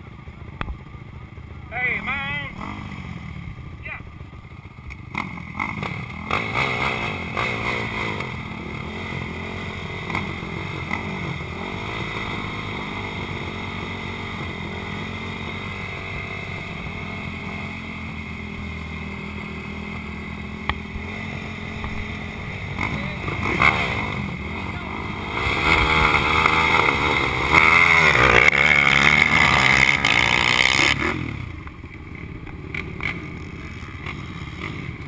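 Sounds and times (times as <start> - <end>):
quad engine idling and revving: 0.0 - 35.0.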